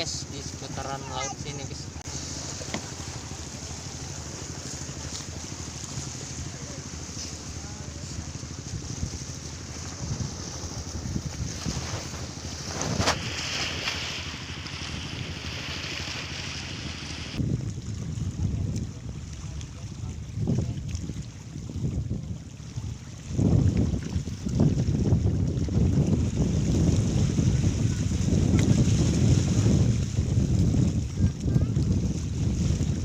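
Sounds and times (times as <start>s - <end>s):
choppy sea waves: 0.0s - 33.0s
wind on microphone: 0.0s - 33.0s.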